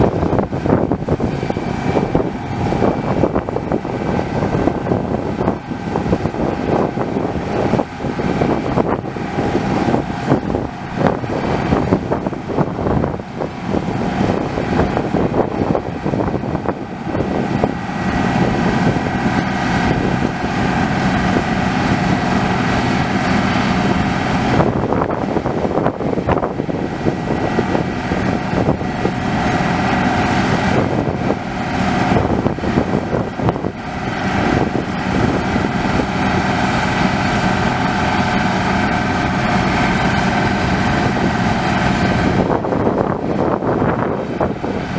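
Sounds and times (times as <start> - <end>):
combine harvester running: 0.0 - 44.9
wind buffeting microphone: 0.0 - 44.9.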